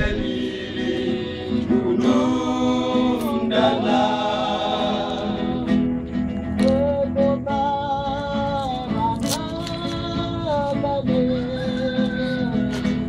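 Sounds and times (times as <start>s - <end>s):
men singing in harmony: 0.0s - 6.0s, 6.6s - 13.0s.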